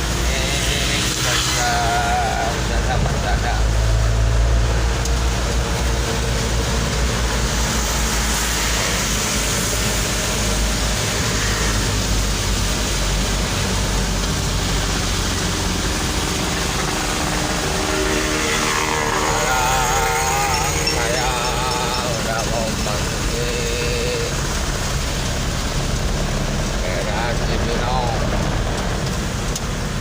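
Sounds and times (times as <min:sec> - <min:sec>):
engine rumble: 0:00.0 - 0:30.0
road and wind noise: 0:00.0 - 0:30.0.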